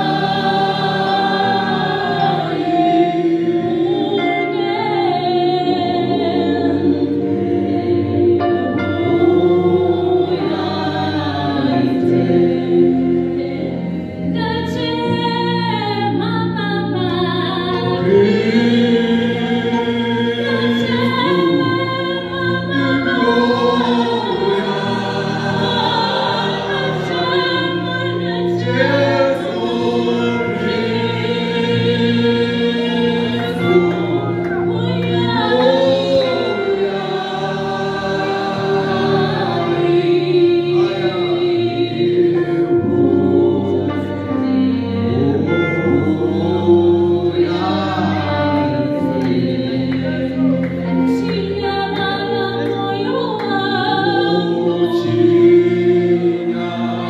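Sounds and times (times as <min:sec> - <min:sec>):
choir singing gospel: 0:00.0 - 0:57.0.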